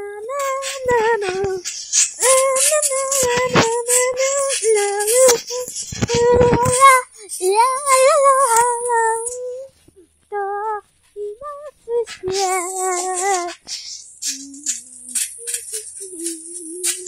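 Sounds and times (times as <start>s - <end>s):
high voice singing: 0.0s - 17.0s
sharp clicks and rattling: 0.4s - 9.4s, 12.0s - 17.0s.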